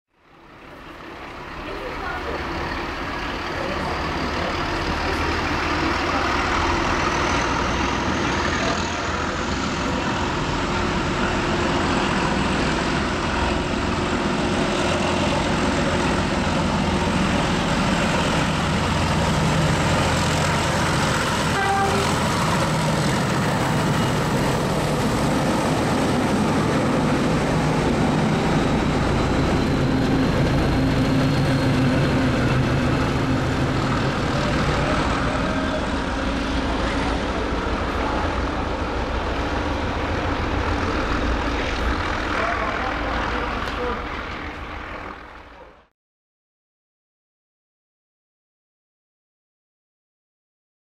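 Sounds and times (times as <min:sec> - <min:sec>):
diesel locomotive engine drone: 0:00.1 - 0:45.9.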